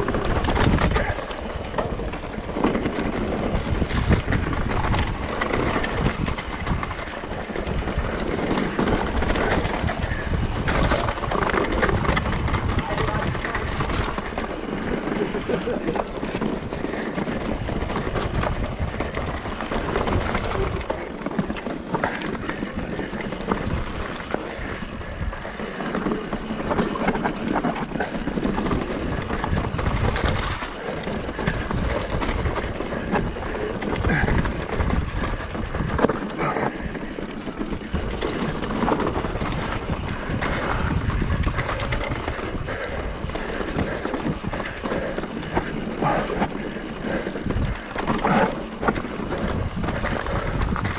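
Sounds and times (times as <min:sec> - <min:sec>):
wind rushing over microphone: 0:00.0 - 0:21.0, 0:22.0 - 0:50.9
bike rattling: 0:00.0 - 0:50.9
bike tyres clattering over rocks: 0:00.0 - 0:50.9.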